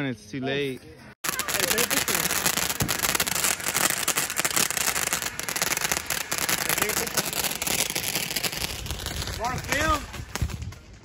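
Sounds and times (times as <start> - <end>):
firework fountain crackling hiss: 1.2 - 11.0.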